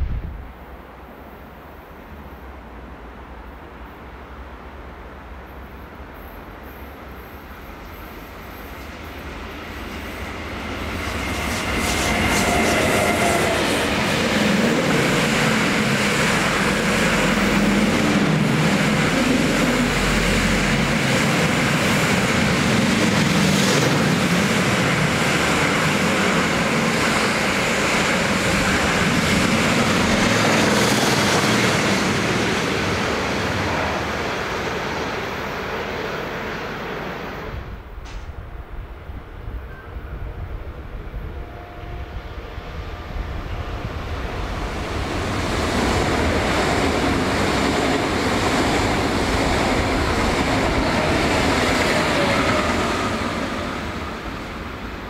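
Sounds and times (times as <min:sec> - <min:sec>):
electric train passing: 0:00.0 - 0:55.0.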